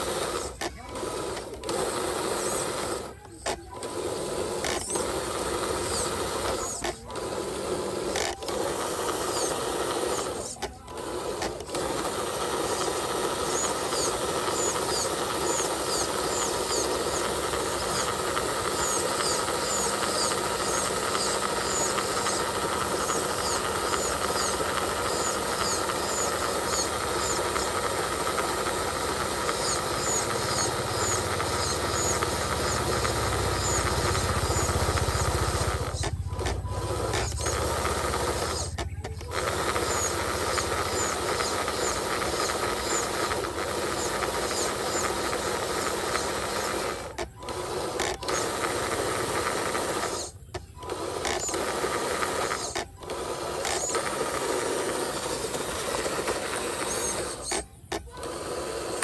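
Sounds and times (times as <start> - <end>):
toy truck motor whirring: 0.0 - 59.0.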